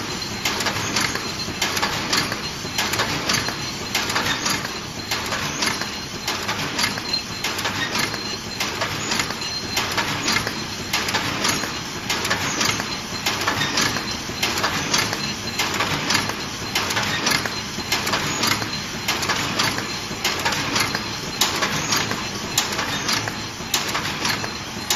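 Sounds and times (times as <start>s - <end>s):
continuous mechanical clatter: 0.0s - 24.9s.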